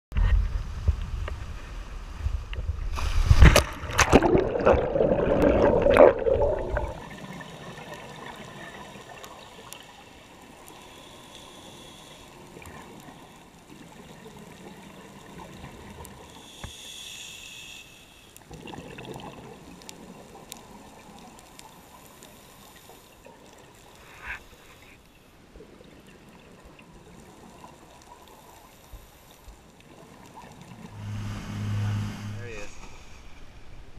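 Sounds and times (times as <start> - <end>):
muffled underwater water noise: 0.1 - 33.9
water surges: 0.5 - 33.9.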